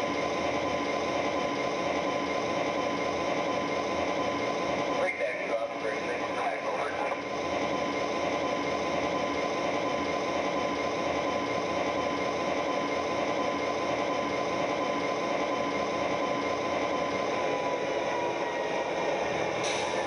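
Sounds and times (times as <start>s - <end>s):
electric motor and wheels whirring: 0.0s - 20.0s
model train diesel engine sound: 0.0s - 20.0s.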